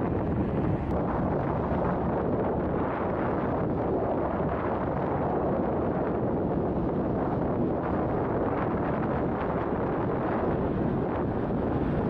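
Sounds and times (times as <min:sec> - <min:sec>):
low rumble of ship: 0:00.0 - 0:12.0
wind buffeting microphone: 0:00.0 - 0:12.0.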